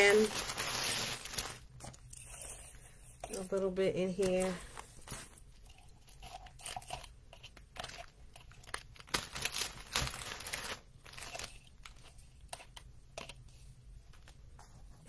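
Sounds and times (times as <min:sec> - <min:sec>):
plastic bag and filler crinkling: 0:00.0 - 0:02.5, 0:03.3 - 0:13.4.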